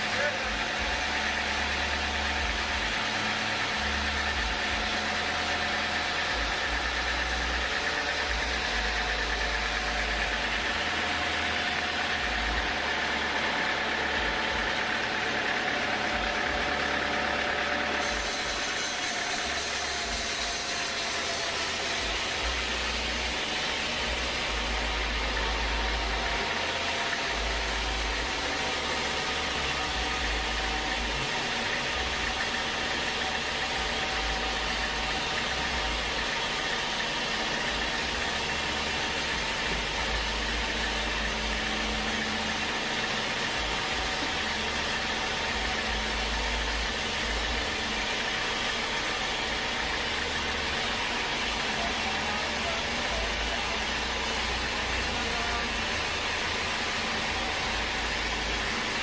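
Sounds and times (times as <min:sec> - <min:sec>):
machinery whining tones: 0:00.0 - 0:59.0
sawmill machinery drone: 0:00.0 - 0:59.0.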